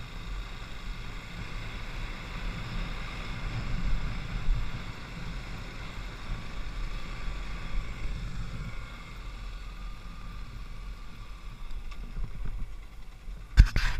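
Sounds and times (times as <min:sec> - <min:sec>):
dirt bike engine running: 0:00.0 - 0:13.9.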